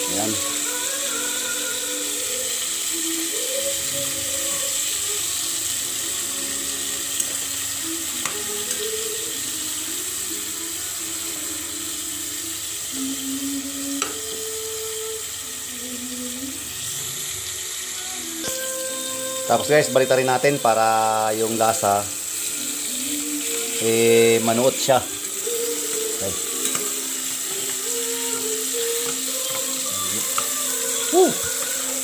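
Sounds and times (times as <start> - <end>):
seafood sizzling in hot oil: 0.0 - 32.0.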